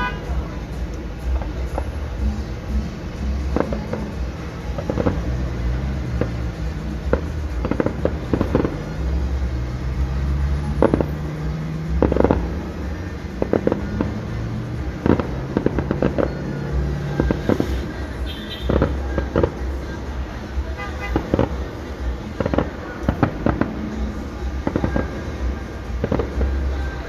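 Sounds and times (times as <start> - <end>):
fireworks bursting: 0.0 - 27.0.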